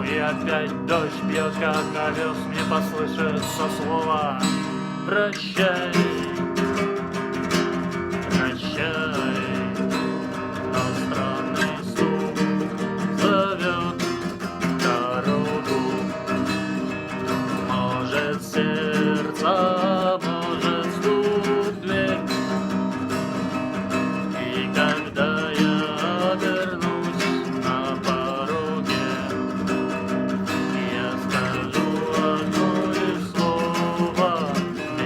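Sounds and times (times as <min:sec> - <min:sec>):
acoustic guitar strumming chords: 0:00.0 - 0:35.0.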